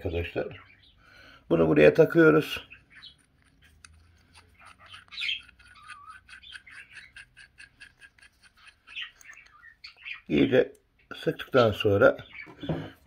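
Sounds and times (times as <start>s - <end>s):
small bird chirping: 0.0s - 1.5s, 2.2s - 13.0s.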